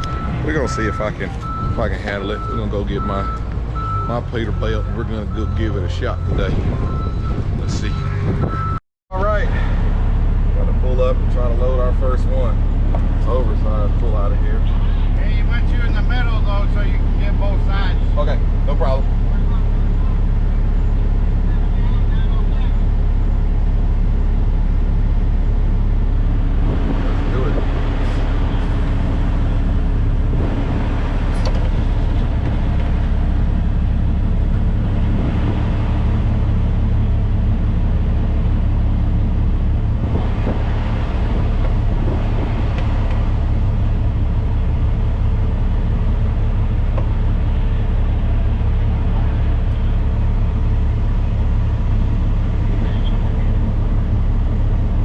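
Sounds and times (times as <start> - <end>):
diesel truck engine drone: 0.0 - 55.0.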